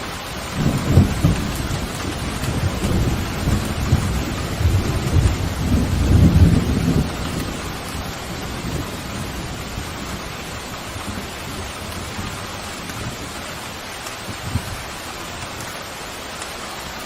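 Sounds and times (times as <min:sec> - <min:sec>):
heavy rain: 0:00.0 - 0:17.0
thunder rumbling: 0:00.0 - 0:17.0.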